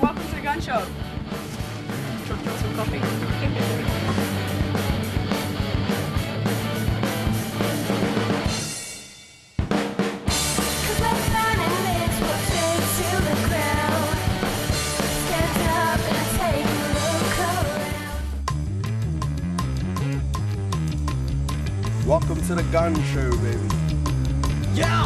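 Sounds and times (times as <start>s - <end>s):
rock band music: 0.0s - 25.0s.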